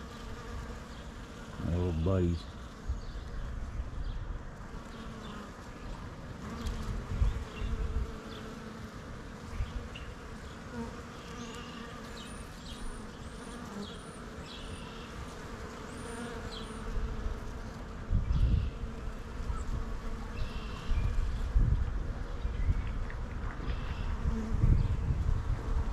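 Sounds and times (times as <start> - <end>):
bees buzzing: 0.0 - 4.0, 4.6 - 22.5.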